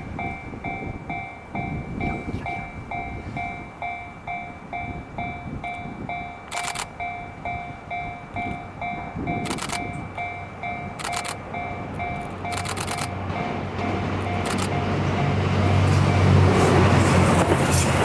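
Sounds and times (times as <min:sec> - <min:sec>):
level-crossing bell clanging: 0:00.0 - 0:15.0
train rumbling: 0:00.0 - 0:18.0.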